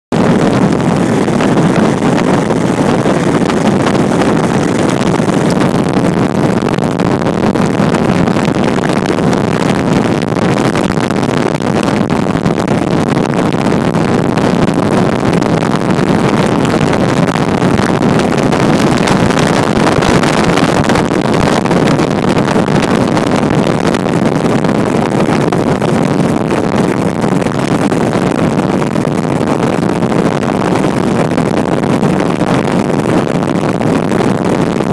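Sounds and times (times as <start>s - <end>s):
motorboat engine and water rush: 0.1s - 34.9s
wind on microphone: 0.1s - 34.9s.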